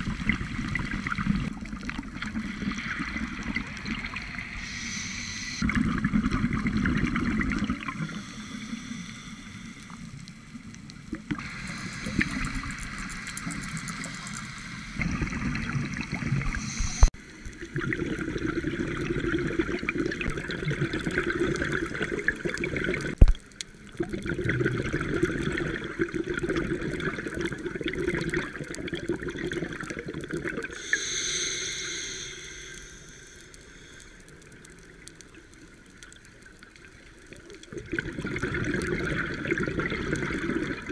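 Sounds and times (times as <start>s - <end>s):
underwater bubbles gurgling: 0.0s - 40.9s.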